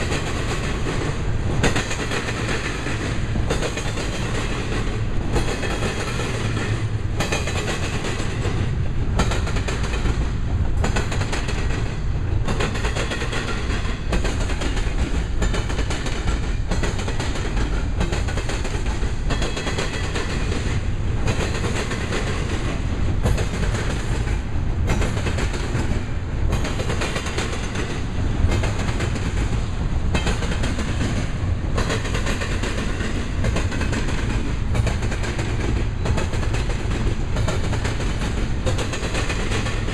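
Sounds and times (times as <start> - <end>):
train rolling rumble: 0.0 - 39.9
wheels clattering over rail joints: 0.0 - 39.9.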